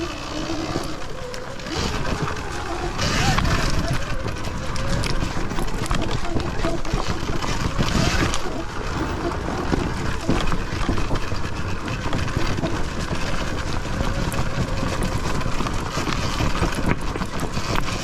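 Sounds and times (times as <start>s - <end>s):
bike knocks and rattles: 0.0s - 18.0s
tyres on dirt: 0.0s - 18.0s
wind buffeting microphone: 0.0s - 18.0s.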